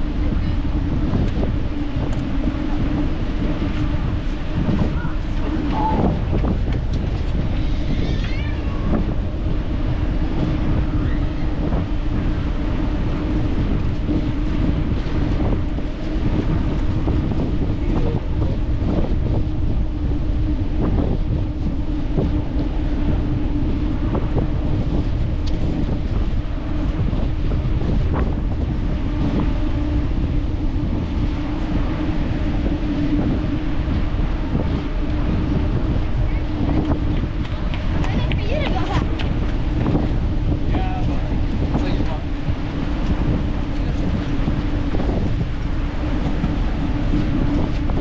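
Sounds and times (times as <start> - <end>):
bicycle tyre rumble: 0.0 - 48.0
steady low hum: 0.0 - 48.0
wind buffeting microphone: 0.0 - 48.0.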